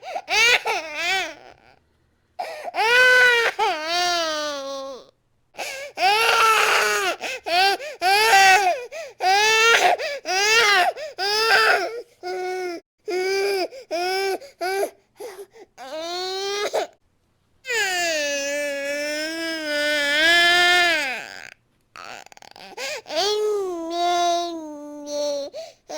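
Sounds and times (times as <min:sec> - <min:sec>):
baby crying: 0:00.0 - 0:01.7, 0:02.4 - 0:16.9, 0:17.7 - 0:25.9.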